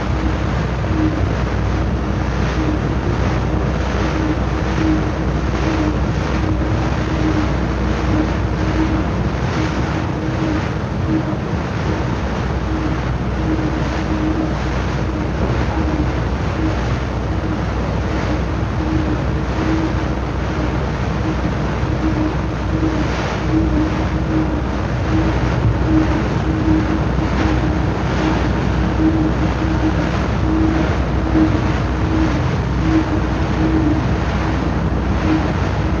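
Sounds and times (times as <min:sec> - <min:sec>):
churning rush of water: 0:00.0 - 0:36.0
steady low hum: 0:00.0 - 0:36.0.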